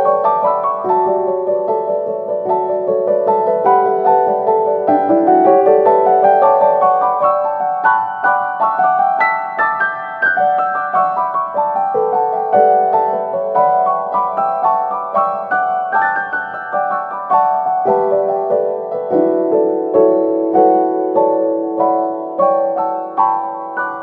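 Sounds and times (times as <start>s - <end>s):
background piano music: 0.0s - 24.0s.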